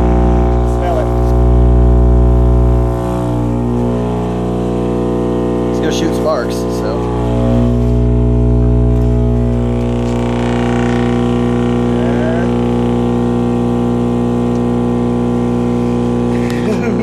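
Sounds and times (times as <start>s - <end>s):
subwoofer buzzing hum: 0.0s - 17.0s.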